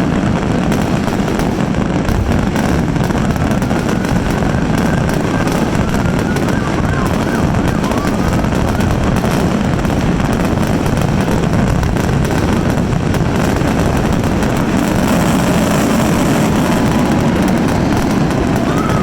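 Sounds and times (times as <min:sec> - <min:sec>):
fireworks bursting: 0:00.0 - 0:19.0
fireworks crackling: 0:00.0 - 0:19.0.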